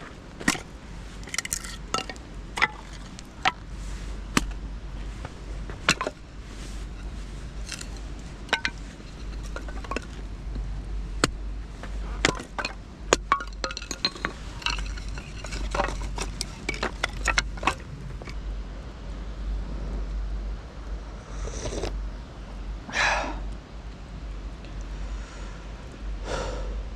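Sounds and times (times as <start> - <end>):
low rumble: 0.0 - 26.9.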